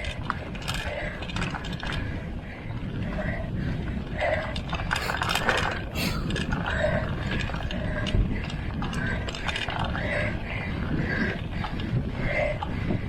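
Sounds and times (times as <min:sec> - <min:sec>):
bike drivetrain clicking and rattling: 0:00.0 - 0:13.0
tyres and wind rumble: 0:00.0 - 0:13.0.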